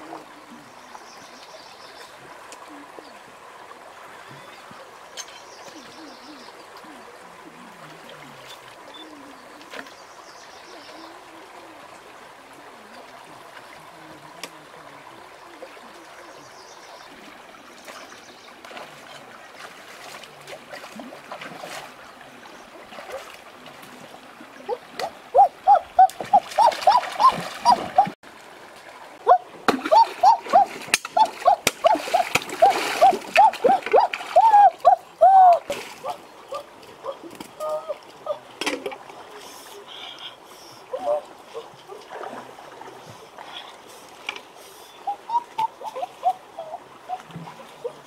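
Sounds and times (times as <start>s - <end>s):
river water trickling: 0.0s - 48.0s.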